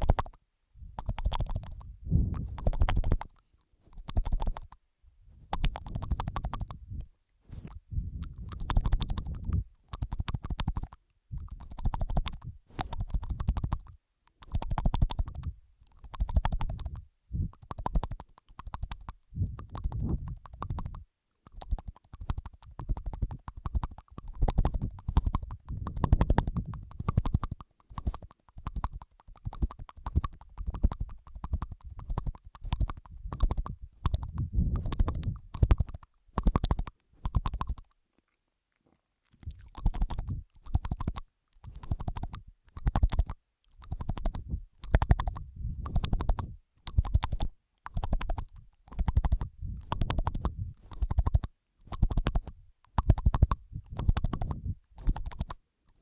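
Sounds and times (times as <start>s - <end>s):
wet mouth clicks and smacks: 0.0s - 4.8s, 5.4s - 56.0s.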